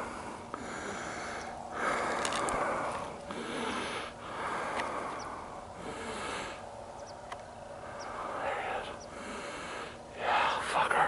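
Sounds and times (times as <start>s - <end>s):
person breathing heavily: 0.0s - 6.8s, 7.8s - 11.0s.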